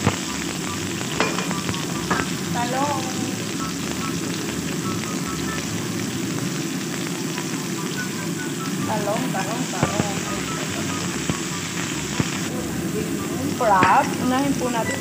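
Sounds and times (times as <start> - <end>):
beans sizzling in hot oil: 0.0 - 15.0.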